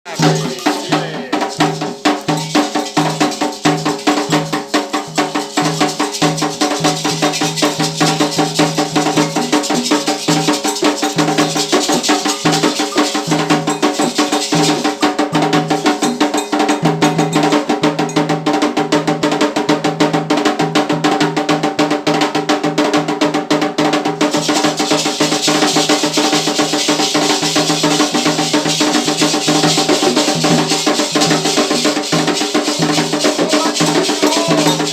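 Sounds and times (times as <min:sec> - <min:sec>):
struck percussion pattern: 0:00.1 - 0:18.6, 0:24.2 - 0:34.9
hand drums: 0:00.1 - 0:34.9.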